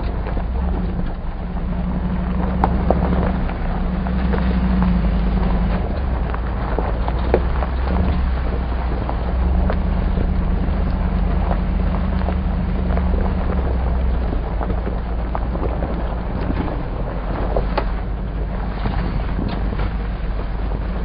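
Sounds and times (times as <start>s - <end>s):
car engine running: 0.0s - 21.0s
tyre and road noise: 0.0s - 21.0s.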